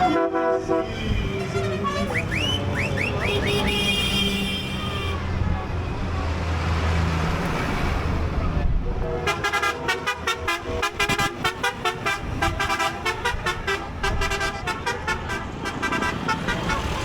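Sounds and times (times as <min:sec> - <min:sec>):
rumble of passing vehicles: 0:00.0 - 0:17.0.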